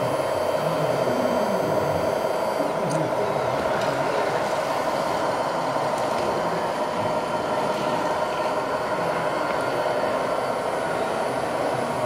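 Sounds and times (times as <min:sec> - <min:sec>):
model loader motors humming: 0:00.0 - 0:12.0.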